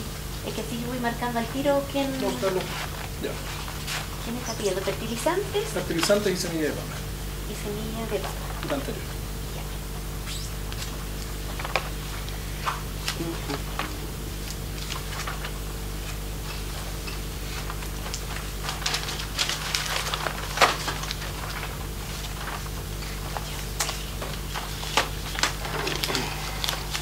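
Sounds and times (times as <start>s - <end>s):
low electrical hum: 0.0s - 27.0s
paper rustling: 2.0s - 6.8s, 8.0s - 27.0s.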